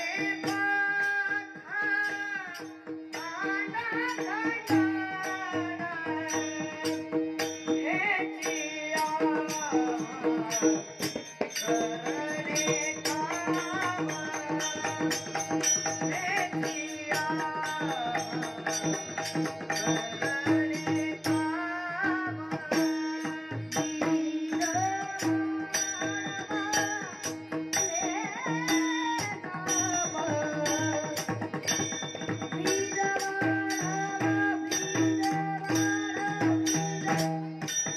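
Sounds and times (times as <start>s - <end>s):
boy singing: 0.0s - 37.7s
hand cymbals: 0.0s - 37.9s
harmonium: 0.0s - 37.9s.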